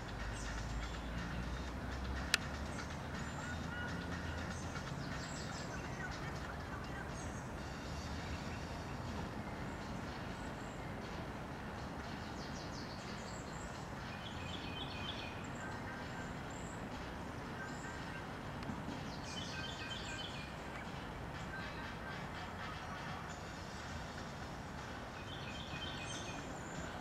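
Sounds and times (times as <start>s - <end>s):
small birds chirping: 0.0s - 27.0s
steady rushing background noise: 0.0s - 27.0s.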